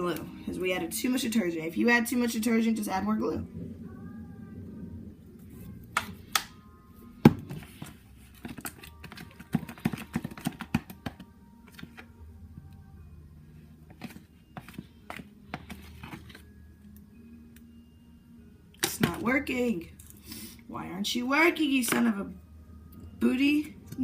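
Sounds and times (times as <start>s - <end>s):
faint background music: 0.0s - 24.0s.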